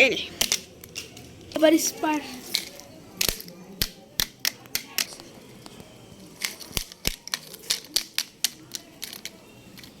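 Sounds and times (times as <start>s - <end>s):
plastic toys clicking: 0.4s - 1.8s, 2.4s - 10.0s.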